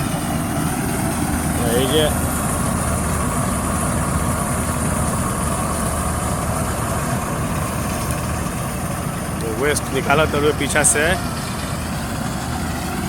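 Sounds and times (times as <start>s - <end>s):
heavy machinery engine humming: 0.0s - 13.0s.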